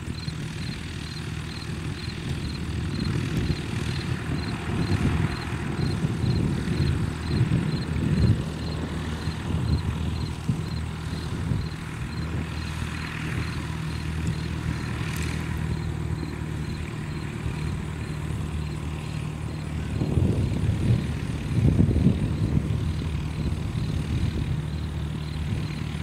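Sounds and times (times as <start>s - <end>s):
gusty low rumble: 0.0s - 26.0s
small plane engine and propeller: 0.0s - 26.0s.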